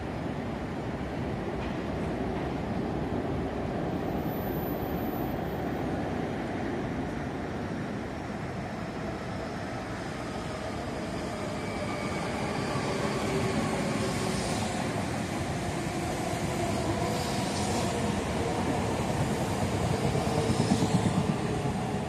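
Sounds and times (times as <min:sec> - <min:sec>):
electric train running past: 0:00.0 - 0:22.0
hiss of wheels on rail: 0:01.4 - 0:22.0.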